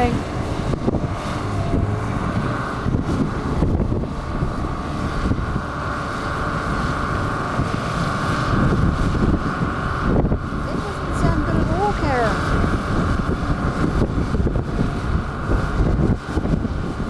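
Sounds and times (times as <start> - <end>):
vehicle engine running: 0.0 - 17.0
wind noise on microphone: 0.0 - 17.0.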